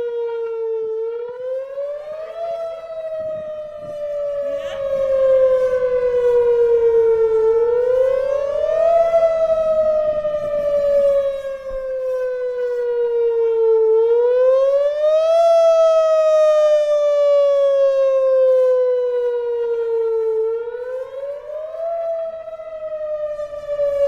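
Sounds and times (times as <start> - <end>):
tornado siren wailing: 0.0 - 24.0.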